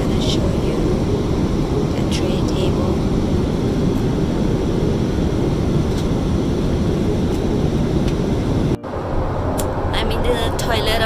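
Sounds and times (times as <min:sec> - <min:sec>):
airplane cabin engine rush: 0:00.0 - 0:11.0.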